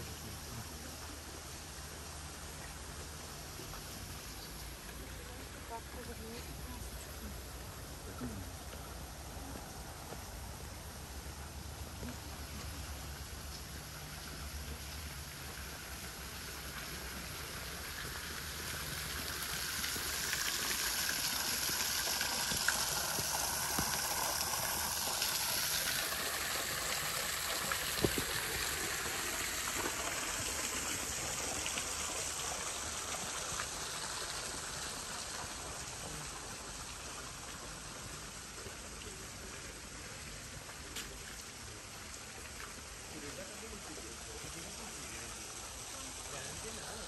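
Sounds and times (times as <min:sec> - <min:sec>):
running water hissing: 0:00.0 - 0:47.0.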